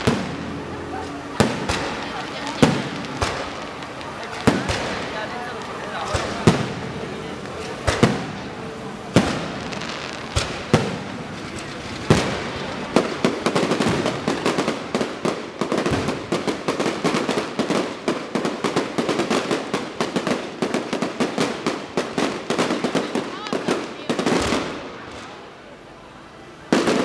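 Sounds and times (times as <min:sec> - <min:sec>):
fireworks bangs: 0:00.0 - 0:25.5
fireworks crackling: 0:00.0 - 0:27.0.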